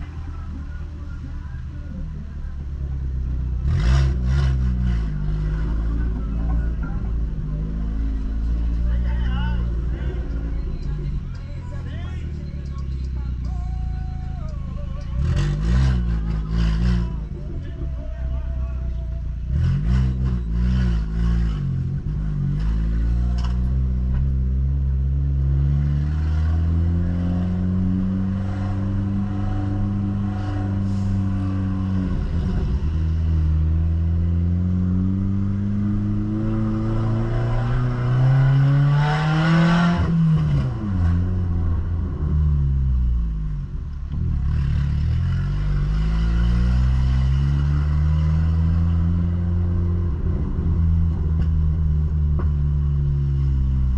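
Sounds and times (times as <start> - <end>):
car exhaust rumbling: 0.0 - 53.9.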